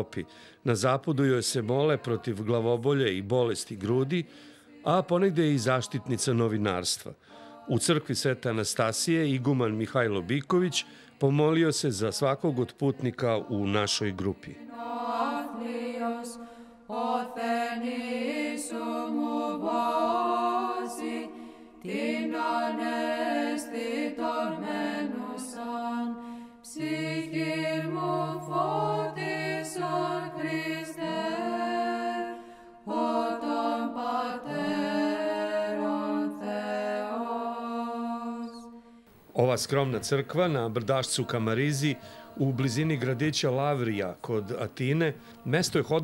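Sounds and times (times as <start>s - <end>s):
voices singing a chant: 0.0s - 46.0s.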